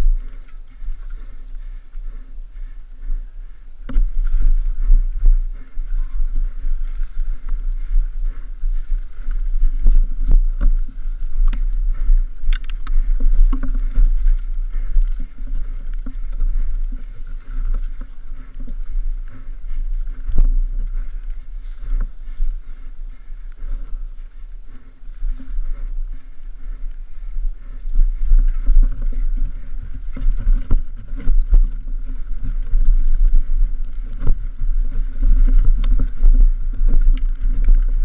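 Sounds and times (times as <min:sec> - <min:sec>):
mountain bike rattling over bumps: 0:00.0 - 0:38.0
wind buffeting microphone: 0:00.0 - 0:38.0.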